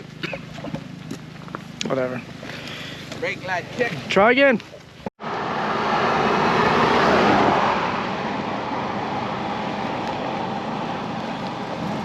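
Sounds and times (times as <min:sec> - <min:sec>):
rushing road noise: 0:00.0 - 0:12.0.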